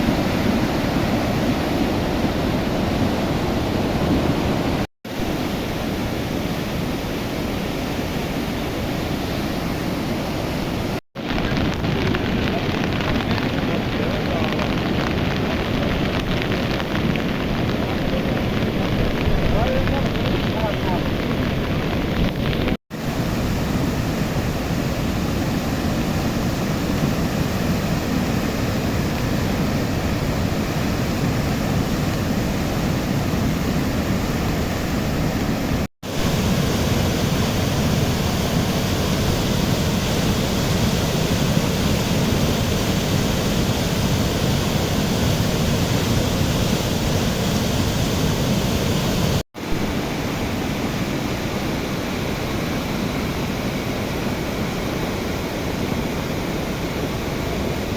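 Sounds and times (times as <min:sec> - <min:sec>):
river rushing in flood: 0:00.0 - 0:57.9.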